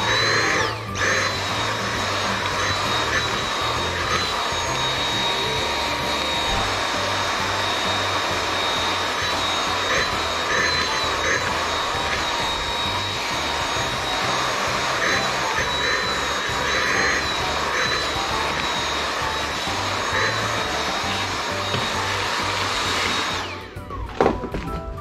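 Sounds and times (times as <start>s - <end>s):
vacuum cleaner high whine: 0.0s - 24.6s.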